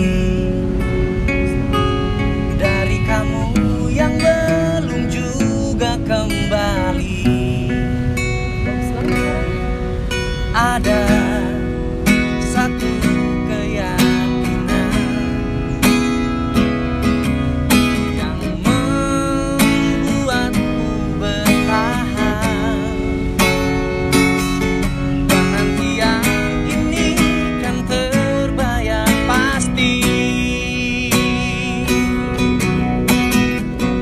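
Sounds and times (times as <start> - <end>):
man singing with vibrato: 0.0 - 34.0
strummed acoustic guitar: 0.0 - 34.0.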